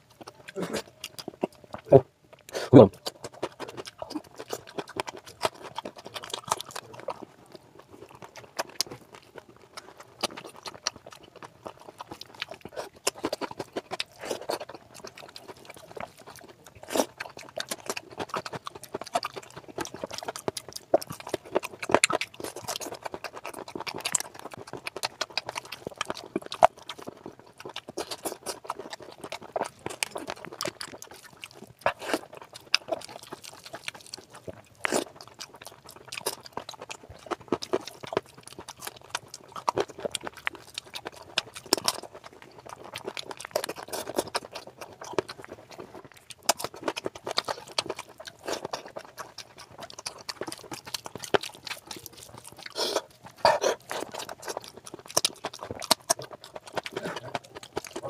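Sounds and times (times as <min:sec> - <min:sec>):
wet chewing and lip smacking: 0:00.0 - 0:58.0.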